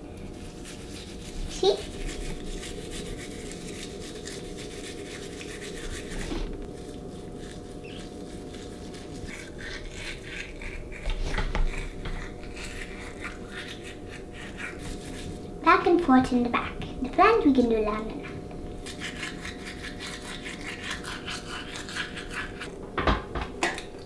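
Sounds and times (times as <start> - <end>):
toothbrush scrubbing teeth: 0.2 - 22.8.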